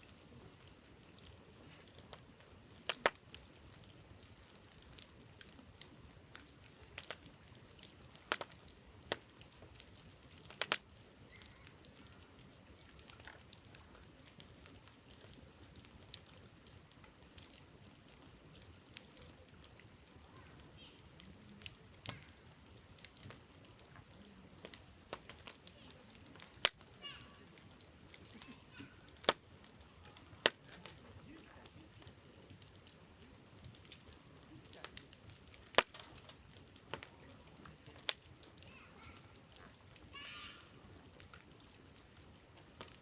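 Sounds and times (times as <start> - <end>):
campfire crackling and popping: 0.0 - 43.0
faint steady hiss: 0.0 - 43.0.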